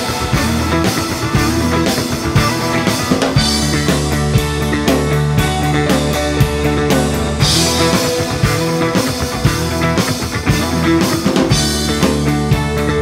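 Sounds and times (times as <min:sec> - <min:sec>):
drum kit: 0:00.0 - 0:13.0
electric guitars: 0:00.0 - 0:13.0.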